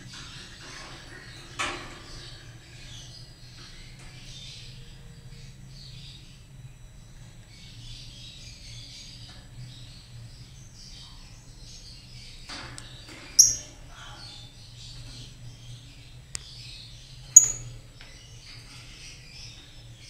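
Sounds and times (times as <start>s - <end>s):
lovebirds chirping and twittering: 0.0s - 20.0s
steady low hum: 0.0s - 20.0s.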